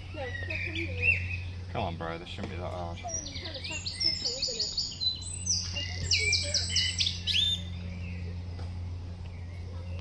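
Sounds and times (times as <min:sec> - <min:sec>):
low steady hum: 0:00.0 - 0:10.0
songbird singing: 0:00.0 - 0:10.0.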